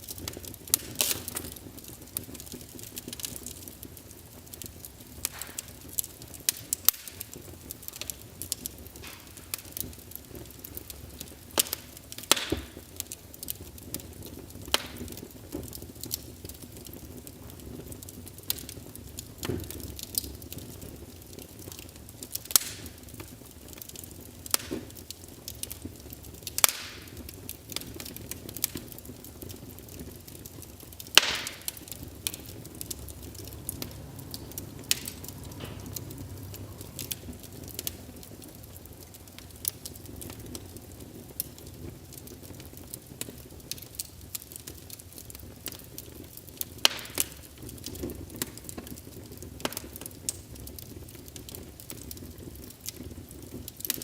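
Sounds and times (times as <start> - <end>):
logs crackling in fireplace: 0.0 - 54.0.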